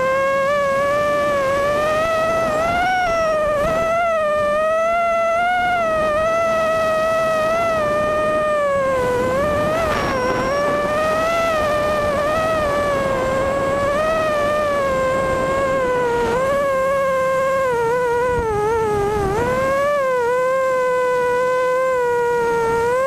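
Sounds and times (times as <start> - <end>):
quadcopter motor whine: 0.0 - 23.0.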